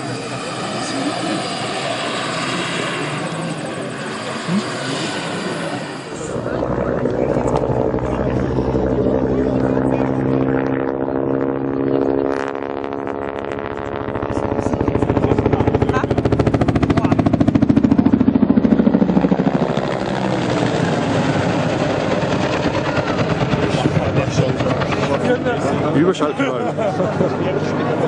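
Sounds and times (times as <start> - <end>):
model helicopter rotor beating: 0.0 - 28.0
turbine engine tone: 0.0 - 28.0.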